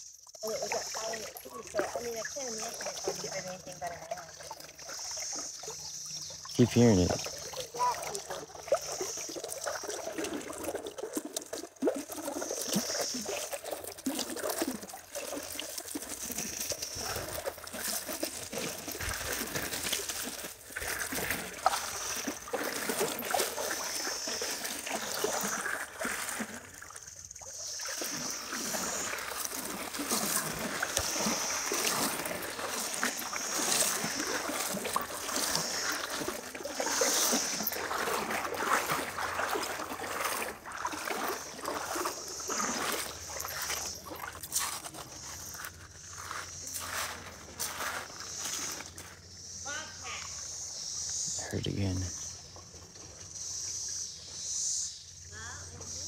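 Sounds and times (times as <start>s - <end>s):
river water trickling and splashing: 0.0s - 56.0s.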